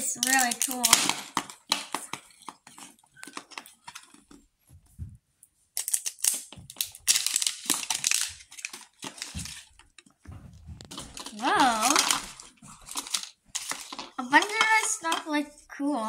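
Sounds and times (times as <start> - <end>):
plastic film crinkling: 0.0 - 4.5, 5.8 - 15.2.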